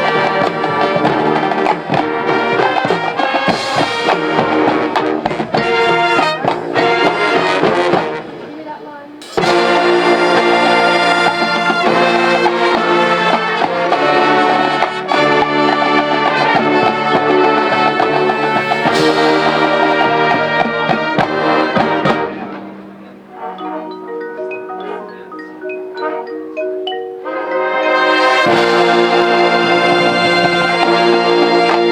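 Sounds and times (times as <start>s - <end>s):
brass ensemble: 0.0s - 31.9s
marching band playing: 0.0s - 31.9s
marimba and xylophone notes: 0.0s - 31.9s
sharp percussion hits: 0.0s - 31.9s.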